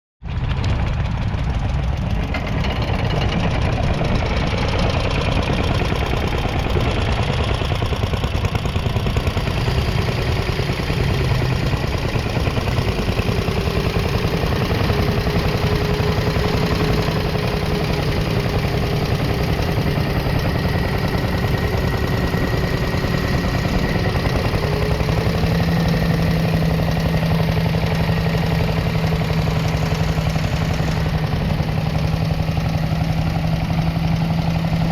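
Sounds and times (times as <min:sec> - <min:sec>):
single-cylinder petrol engine running: 0:00.4 - 0:34.9.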